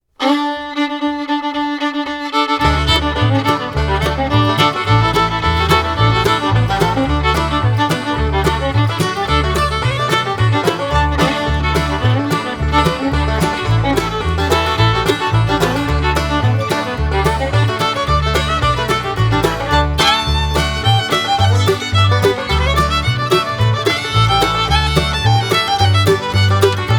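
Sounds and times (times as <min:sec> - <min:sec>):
upbeat fiddle music: 0:00.2 - 0:26.9
bass line: 0:02.5 - 0:26.9.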